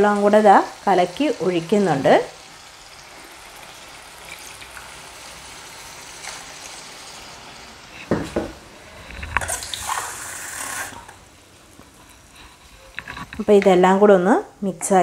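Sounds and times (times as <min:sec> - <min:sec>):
curry hissing in a wok: 0:00.0 - 0:13.0.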